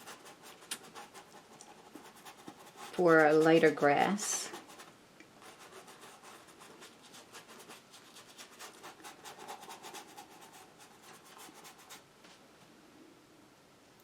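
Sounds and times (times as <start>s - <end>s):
bristle brush scrubbing canvas: 0.0s - 4.9s, 5.5s - 12.0s.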